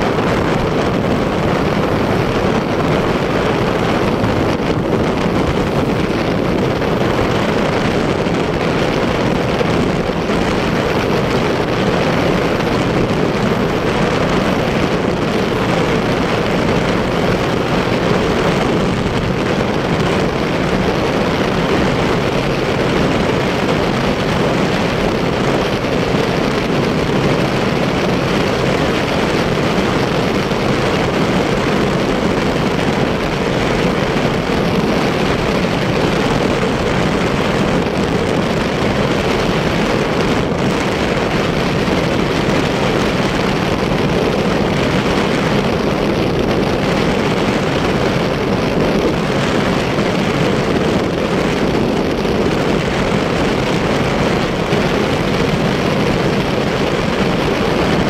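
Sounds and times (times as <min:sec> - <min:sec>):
motorcycle wind and road noise: 0:00.0 - 0:58.0.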